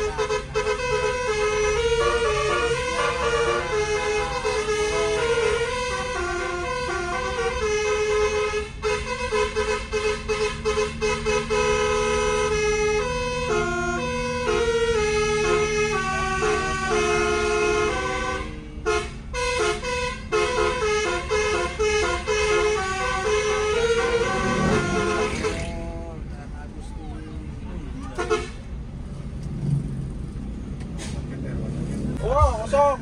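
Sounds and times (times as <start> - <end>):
bus air horns playing a tune: 0.0 - 26.2, 28.1 - 28.8.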